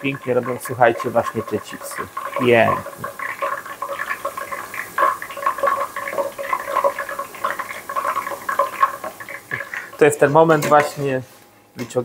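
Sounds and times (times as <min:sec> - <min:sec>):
oil bubbling and sizzling: 0:00.0 - 0:11.2.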